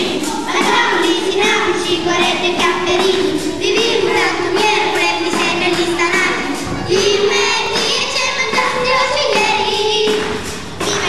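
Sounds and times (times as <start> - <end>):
children singing: 0.0 - 11.0
musical accompaniment: 0.0 - 11.0.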